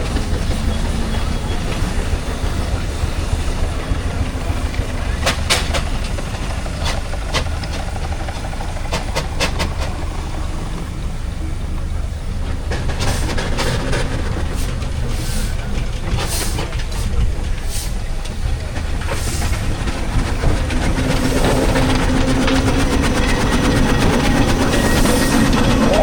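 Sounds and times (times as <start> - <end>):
steam traction engines running: 0.0 - 26.0.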